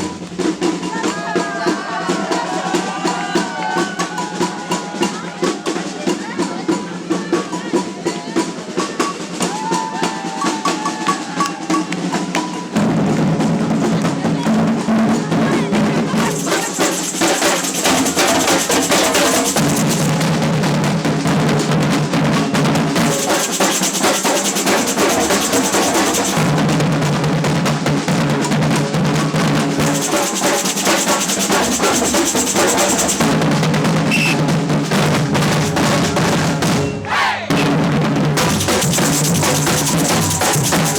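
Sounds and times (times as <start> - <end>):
samba percussion band: 0.0 - 40.9.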